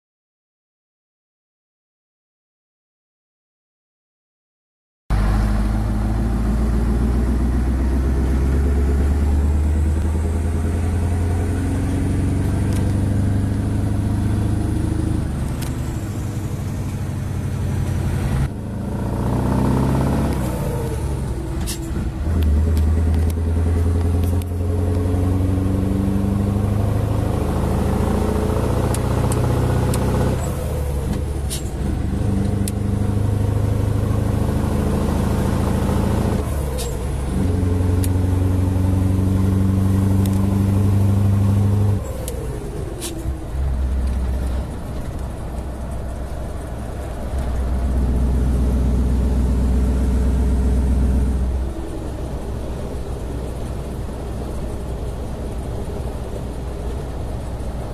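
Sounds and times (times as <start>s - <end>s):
diesel truck engine running: 5.1s - 57.9s.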